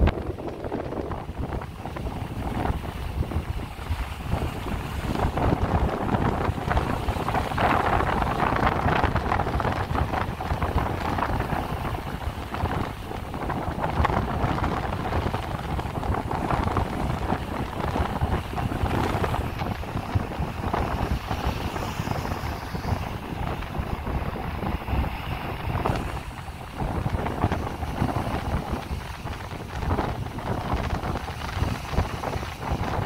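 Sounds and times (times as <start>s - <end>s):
waves breaking on rocky shore: 0.0s - 33.0s
wind rumbling on microphone: 0.0s - 33.0s.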